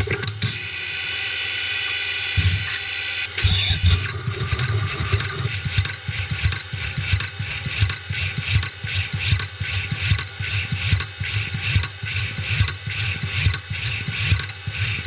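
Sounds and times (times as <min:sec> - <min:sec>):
milling machine spindle whine: 0:00.0 - 0:15.0.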